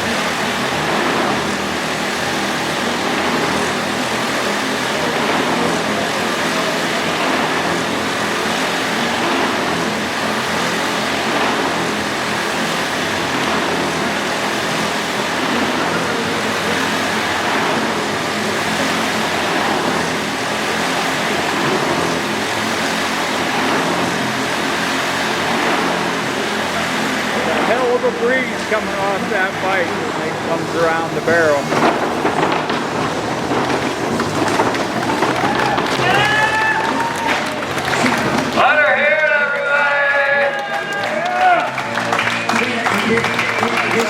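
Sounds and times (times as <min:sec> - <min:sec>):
motorcycle engine running hard: 0:00.0 - 0:44.0.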